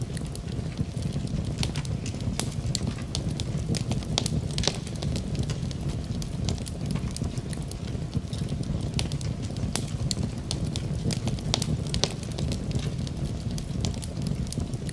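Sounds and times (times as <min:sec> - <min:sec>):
steady low rumble: 0:00.0 - 0:14.9
wood fire crackling and popping: 0:00.0 - 0:14.9.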